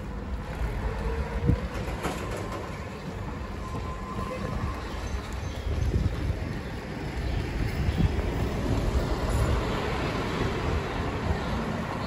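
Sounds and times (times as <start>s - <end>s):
motorcycle and road rumble: 0.0s - 12.0s.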